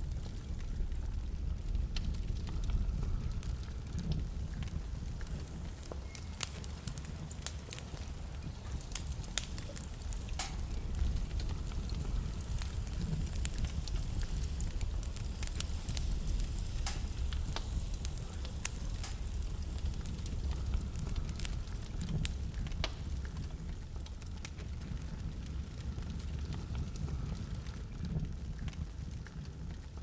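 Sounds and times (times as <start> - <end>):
fire low rumble: 0.0 - 30.0
logs crackling and popping: 0.0 - 30.0.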